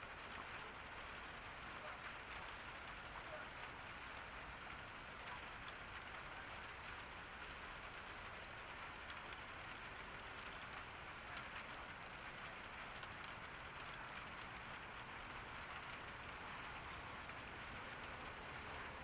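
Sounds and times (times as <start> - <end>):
gentle rain falling: 0.0 - 19.0.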